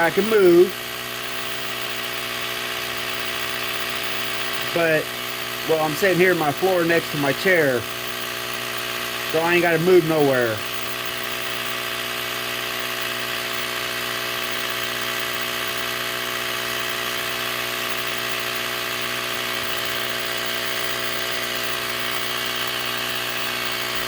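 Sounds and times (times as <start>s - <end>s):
electric air compressor humming: 0.0s - 24.0s.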